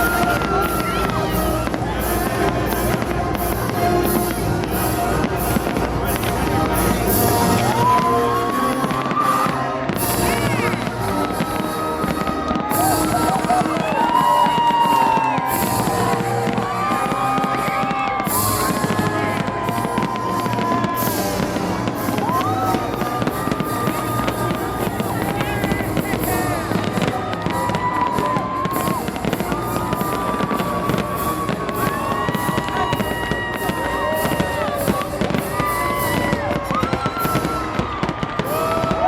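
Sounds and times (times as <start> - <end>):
fireworks bursting and crackling: 0.0 - 39.0
music playing: 0.0 - 39.0.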